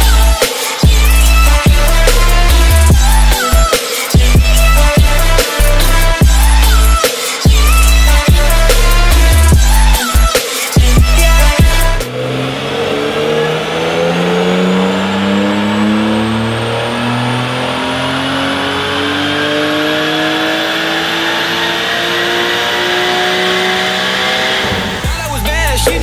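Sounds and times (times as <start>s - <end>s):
car engine revving at full throttle: 0.0s - 26.0s.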